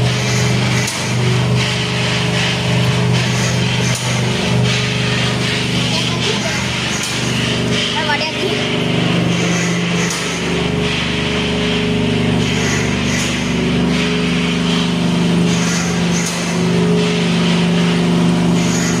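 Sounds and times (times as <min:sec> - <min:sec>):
roaster motor hum: 0:00.0 - 0:19.0.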